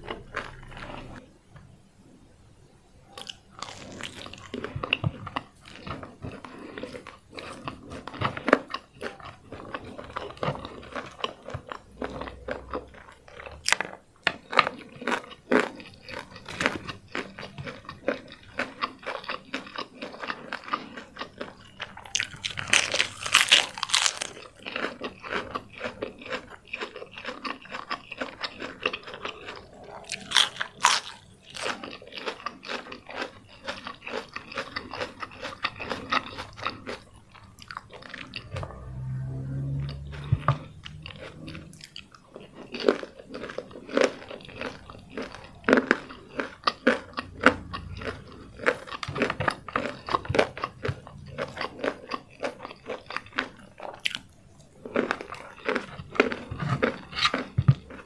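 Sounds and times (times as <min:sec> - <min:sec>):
chewing: 0:00.0 - 0:01.2, 0:03.2 - 0:58.0
crunching fried chicken: 0:00.0 - 0:01.2, 0:03.2 - 0:58.0.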